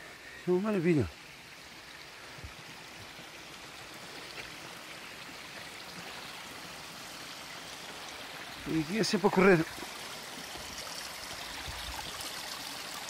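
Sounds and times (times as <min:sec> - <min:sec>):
water running over rock: 0:00.4 - 0:13.0.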